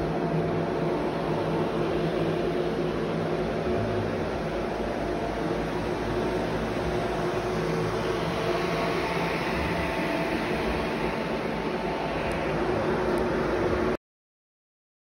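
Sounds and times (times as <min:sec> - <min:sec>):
blower fans whirring: 0:00.0 - 0:14.0.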